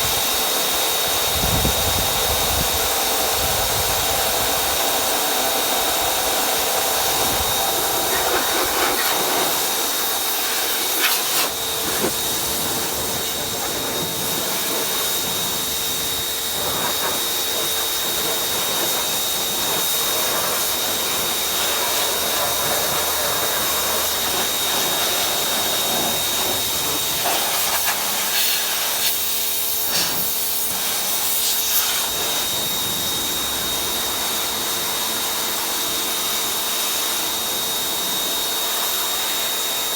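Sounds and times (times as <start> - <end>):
machine hissing and whining: 0.0 - 39.9.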